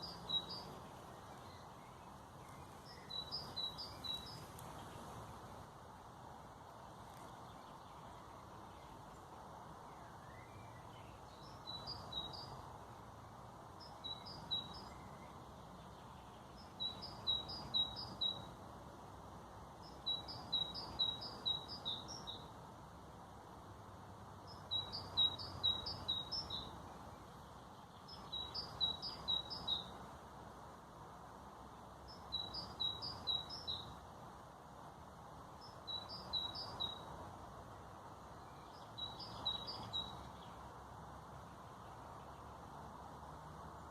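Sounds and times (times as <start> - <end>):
background hiss: 0.0 - 43.9
songbird chirping: 0.0 - 43.9.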